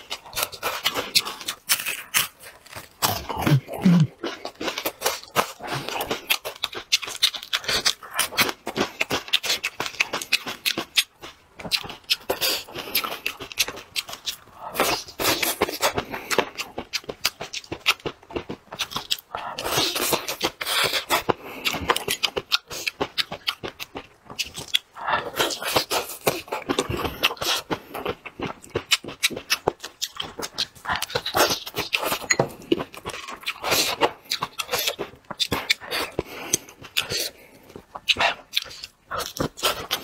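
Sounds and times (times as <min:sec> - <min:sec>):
person chewing wetly: 0:00.0 - 0:40.0.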